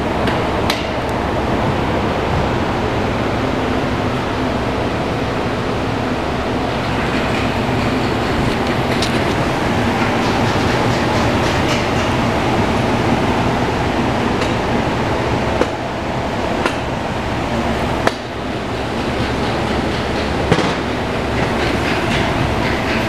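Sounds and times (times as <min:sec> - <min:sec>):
mechanical running noise with hum: 0:00.0 - 0:23.0.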